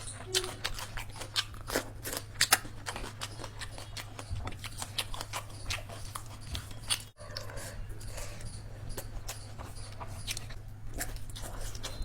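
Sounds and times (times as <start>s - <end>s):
crunchy food being chewed: 0.0s - 12.0s.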